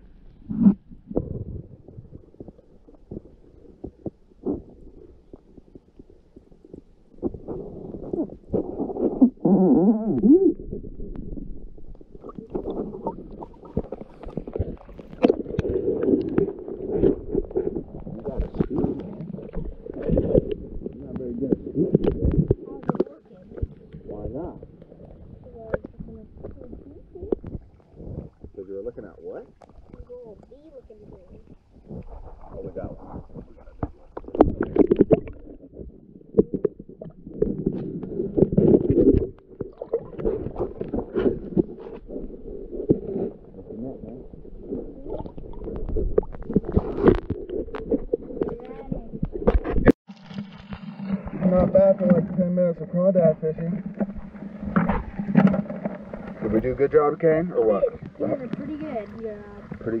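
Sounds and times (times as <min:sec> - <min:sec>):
muffled underwater sloshing: 0:00.0 - 1:00.0.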